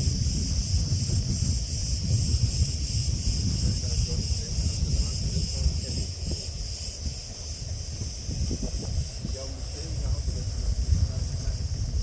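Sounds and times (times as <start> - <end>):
cicadas buzzing: 0.0 - 12.0
wind rumbling on microphone: 0.0 - 12.0.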